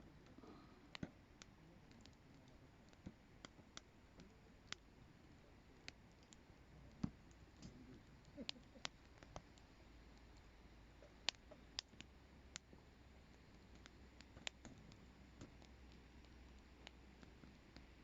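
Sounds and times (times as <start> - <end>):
firewood crackling: 0.0 - 18.0.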